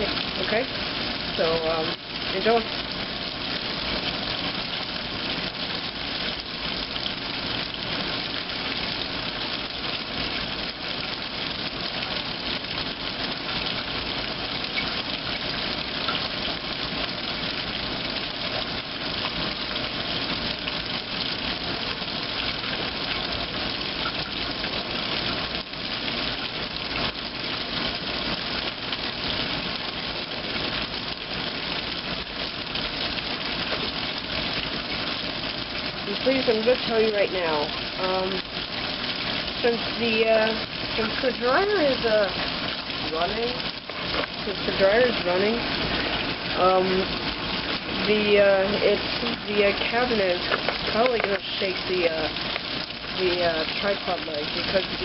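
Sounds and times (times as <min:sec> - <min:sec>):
water rushing into washing machine: 0:00.0 - 0:55.0.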